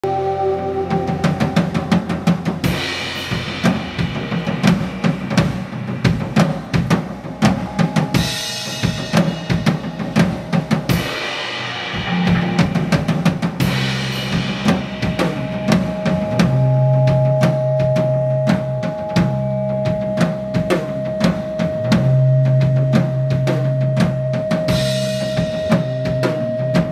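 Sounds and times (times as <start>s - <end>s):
drum kit: 0.0s - 26.9s
rock band playing live: 0.0s - 26.9s
steady held high note: 0.0s - 26.9s.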